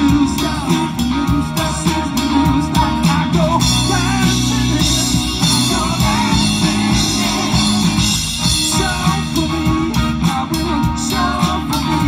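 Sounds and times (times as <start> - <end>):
drum kit: 0.0 - 12.0
electric guitar: 0.0 - 12.0
person singing lead vocal: 0.0 - 12.0.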